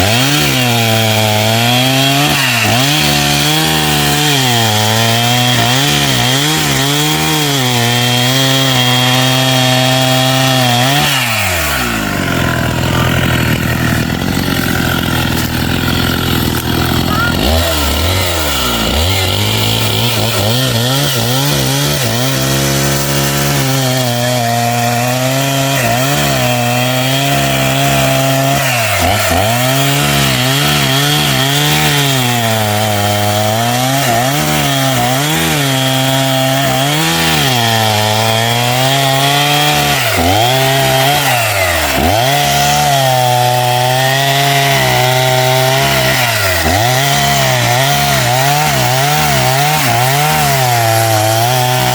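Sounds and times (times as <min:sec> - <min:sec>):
chainsaw sawing wood: 0:00.0 - 0:51.9.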